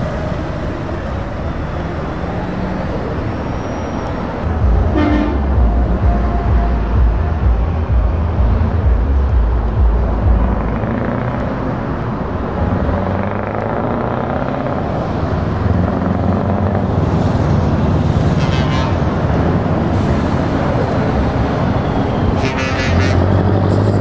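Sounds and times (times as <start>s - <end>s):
diesel truck engine passing: 0.0s - 24.0s.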